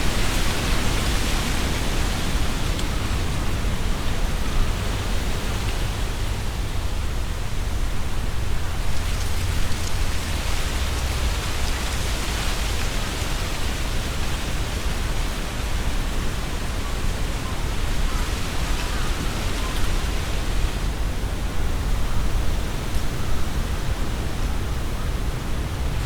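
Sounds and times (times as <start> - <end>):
leaves rustling in strong wind: 0.0 - 26.0
wind buffeting microphone: 0.0 - 26.0.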